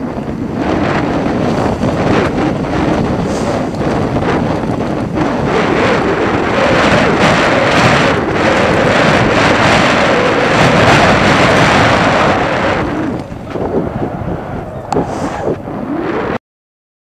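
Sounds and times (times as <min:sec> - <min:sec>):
bike rumbling down dirt trail: 0:00.0 - 0:16.4
wind buffeting microphone: 0:00.0 - 0:16.4.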